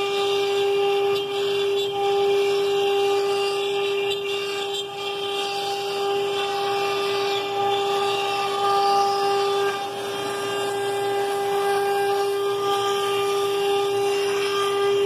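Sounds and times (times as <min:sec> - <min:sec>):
router spindle whine: 0:00.0 - 0:15.0
vacuum pump running: 0:00.0 - 0:15.0.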